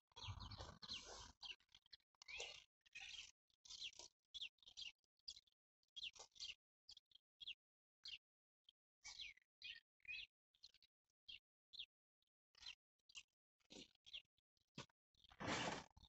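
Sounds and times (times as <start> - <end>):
faint birdsong chirps and whistles: 0.1 - 11.9, 12.5 - 16.0.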